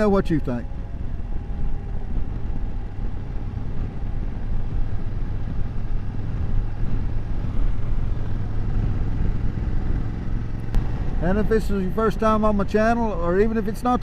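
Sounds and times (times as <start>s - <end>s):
wind and road rumble: 0.0s - 14.0s
motorcycle engine running: 0.6s - 14.0s.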